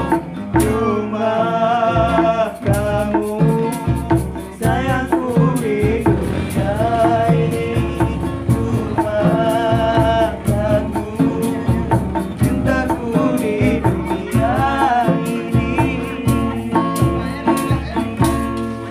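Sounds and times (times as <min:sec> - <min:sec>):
acoustic guitars strummed: 0:00.0 - 0:18.9
person singing: 0:00.0 - 0:18.9.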